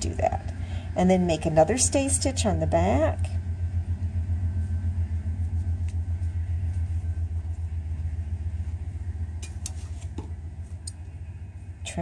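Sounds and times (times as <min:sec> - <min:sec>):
passing train rumble: 0:00.0 - 0:12.0.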